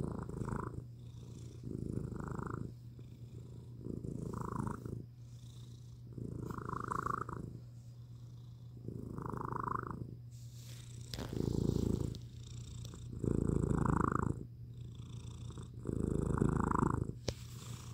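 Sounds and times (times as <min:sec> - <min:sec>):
cat purring: 0:00.0 - 0:17.9.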